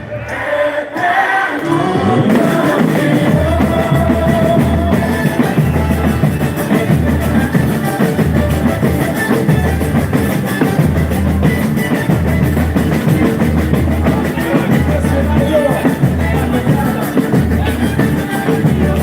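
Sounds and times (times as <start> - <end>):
heavy steady drumming: 1.0 - 19.0
live band music: 1.6 - 19.0.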